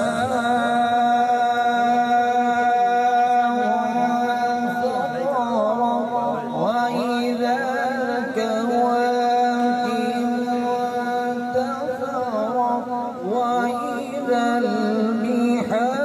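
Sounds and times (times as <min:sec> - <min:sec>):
melodic recitation by single voice: 0:00.0 - 0:16.0.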